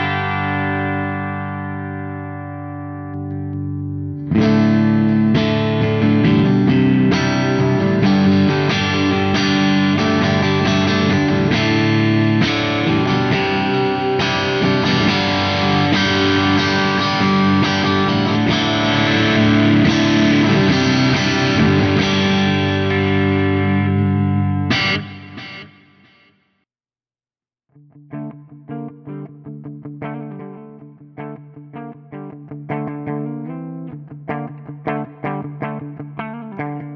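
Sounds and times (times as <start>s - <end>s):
distorted electric guitar riff: 0.0s - 26.3s, 27.8s - 36.9s.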